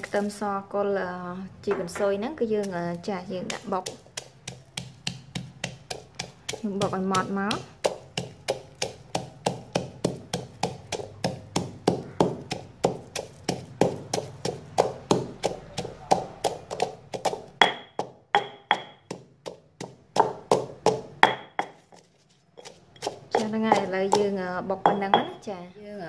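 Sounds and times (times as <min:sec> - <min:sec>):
pestle pounding in stone mortar: 0:01.7 - 0:25.5.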